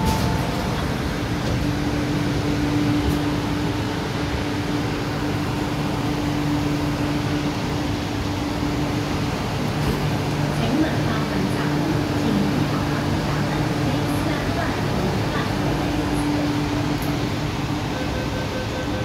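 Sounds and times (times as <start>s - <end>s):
train hum and rumble: 0.0s - 19.0s.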